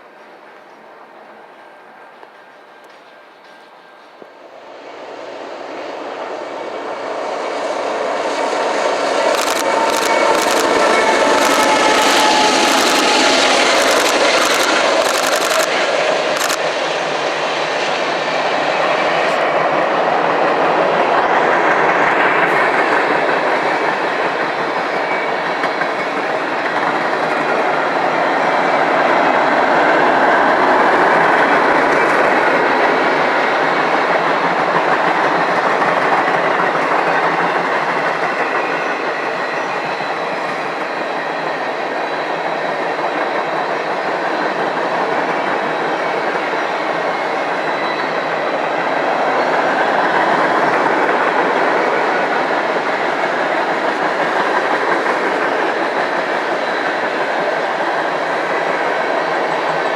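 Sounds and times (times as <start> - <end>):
train cars rolling on rails: 0.0 - 59.9.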